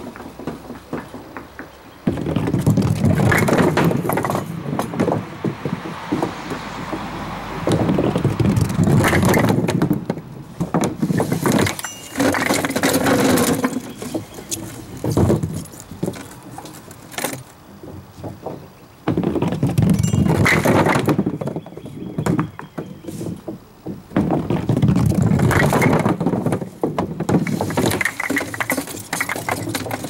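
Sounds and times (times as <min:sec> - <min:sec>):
wooden bowling pins clattering: 0:00.0 - 0:30.0.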